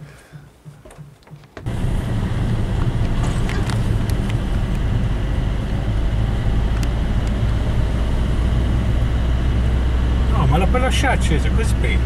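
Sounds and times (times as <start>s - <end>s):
tyre noise on road: 0.0s - 12.0s
car engine running: 1.0s - 12.0s.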